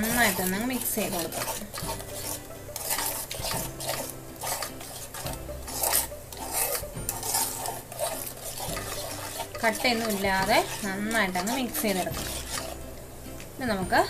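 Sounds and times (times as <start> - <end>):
spoon scraping steel bowl: 0.0 - 13.0.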